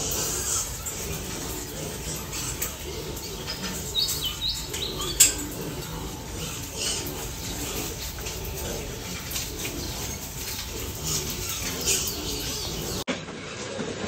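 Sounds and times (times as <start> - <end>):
birds chirping: 0.0 - 13.1
piglets grunting: 0.0 - 13.1.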